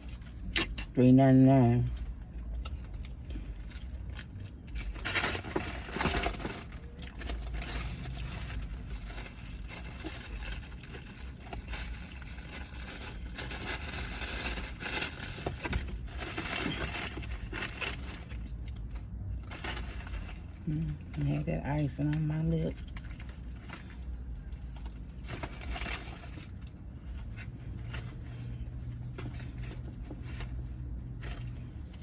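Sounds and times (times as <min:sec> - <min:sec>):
steady low hum: 0:00.0 - 0:32.0
food handling noises: 0:01.8 - 0:32.0
person chewing and crunching: 0:01.9 - 0:21.2, 0:22.7 - 0:32.0.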